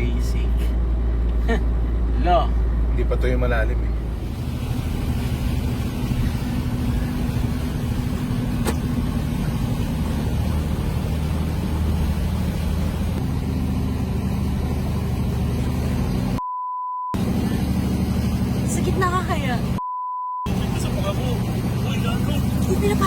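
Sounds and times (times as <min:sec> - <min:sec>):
vehicle engine running: 0:00.0 - 0:16.4, 0:17.2 - 0:19.8, 0:20.5 - 0:23.0.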